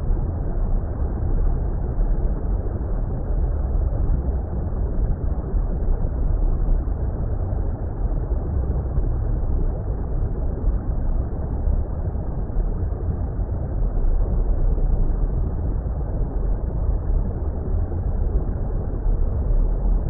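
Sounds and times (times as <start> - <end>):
muffled water rumble: 0.0 - 20.0.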